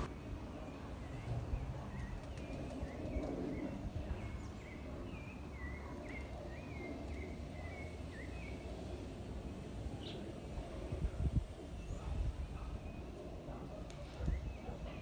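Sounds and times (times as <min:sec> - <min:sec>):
city background rumble: 0:00.0 - 0:15.0
small birds chirping: 0:00.0 - 0:15.0.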